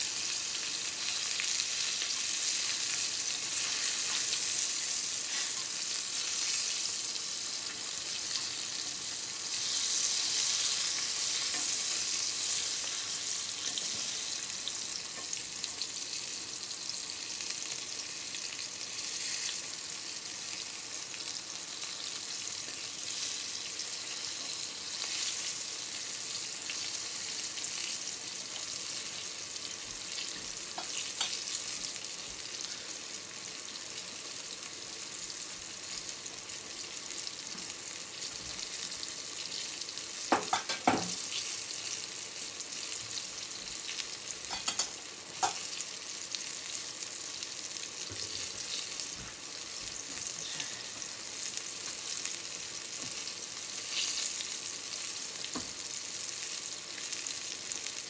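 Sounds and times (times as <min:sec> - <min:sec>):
vegetables sizzling in a frying pan: 0:00.0 - 0:58.0.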